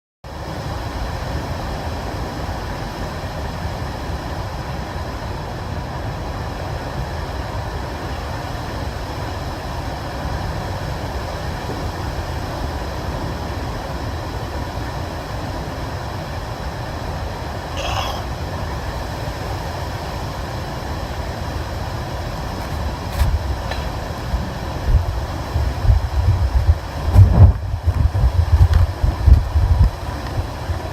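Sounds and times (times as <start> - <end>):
storm wind on microphone: 0.3 - 30.9
surging floodwater: 0.3 - 30.9.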